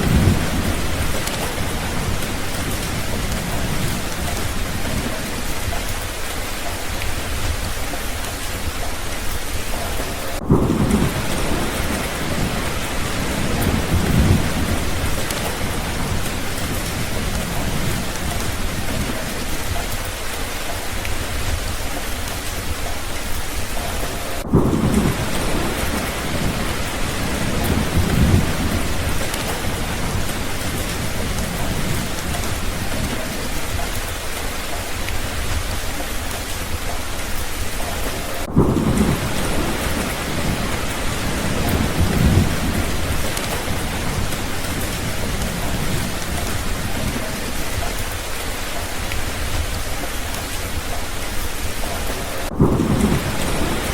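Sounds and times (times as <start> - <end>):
low rolls of thunder: 0.0 - 53.9
steady rain: 0.0 - 53.9.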